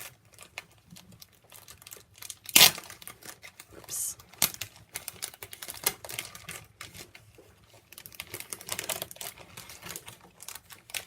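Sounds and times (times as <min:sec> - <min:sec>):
paper crinkling and rustling: 0:00.0 - 0:03.7, 0:04.8 - 0:11.0.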